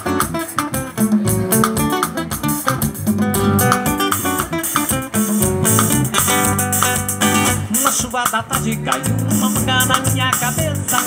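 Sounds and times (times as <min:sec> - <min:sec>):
acoustic guitar strummed: 0:00.0 - 0:11.0
drum and cymbal hits: 0:00.0 - 0:11.0
electric bass guitar: 0:00.0 - 0:11.0.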